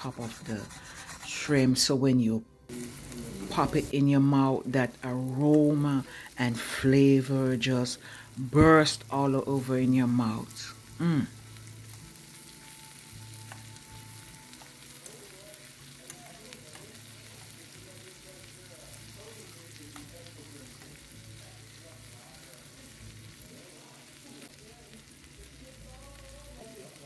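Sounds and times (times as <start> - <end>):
shrimp sizzling in butter: 0.0 - 2.0, 2.6 - 27.0.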